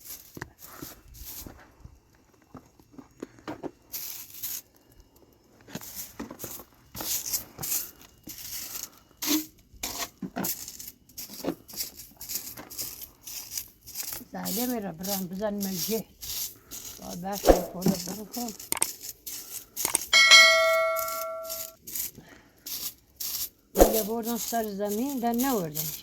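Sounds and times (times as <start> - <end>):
rustling and crunching: 0.0 - 26.0.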